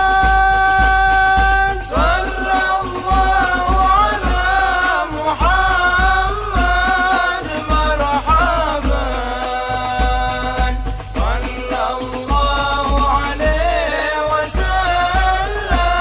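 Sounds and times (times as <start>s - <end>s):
steady low beat: 0.0s - 16.0s.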